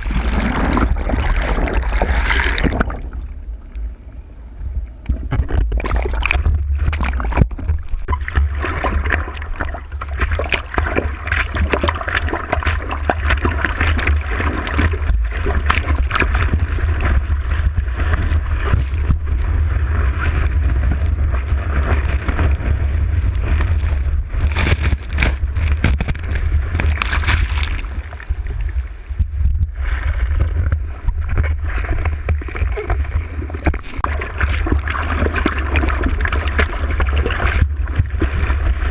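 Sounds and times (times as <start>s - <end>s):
seawater rushing and splashing: 0.0s - 3.4s, 5.6s - 38.9s
steady low rumble: 0.0s - 38.9s.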